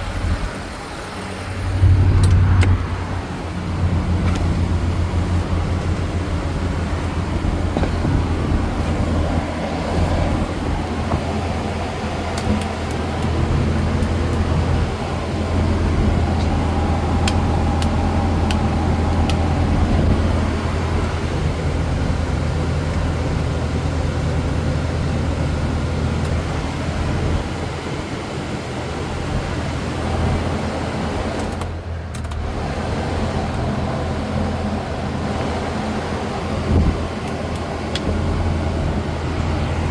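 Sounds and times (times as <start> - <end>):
blower fan rushing: 0.0 - 39.9
low engine drone: 0.0 - 39.9.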